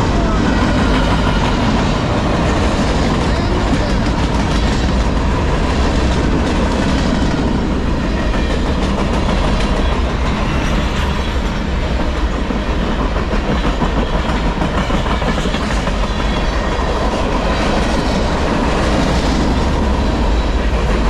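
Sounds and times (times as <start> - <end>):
freight train rumble and rattle: 0.0 - 21.0.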